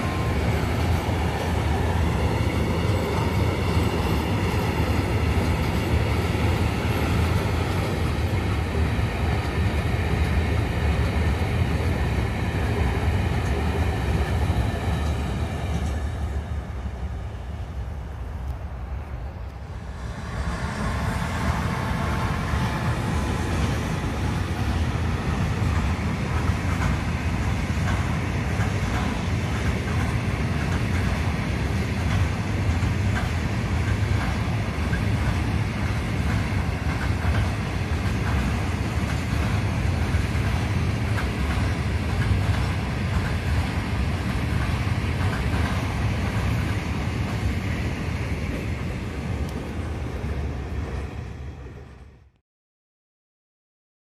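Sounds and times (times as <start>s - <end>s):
rail clicks: 0.0s - 52.2s
train wheels rumbling on rails: 0.0s - 52.4s.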